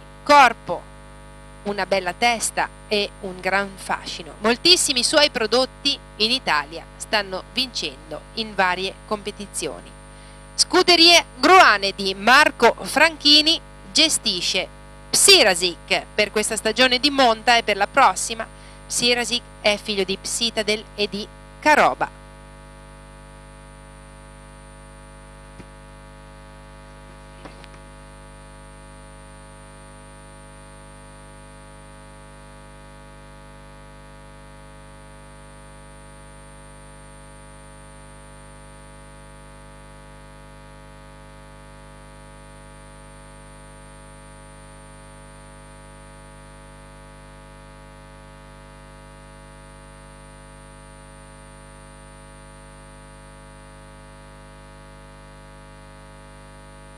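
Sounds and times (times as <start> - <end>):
electrical mains hum: 0.0 - 56.9
thin high whine: 0.0 - 56.9.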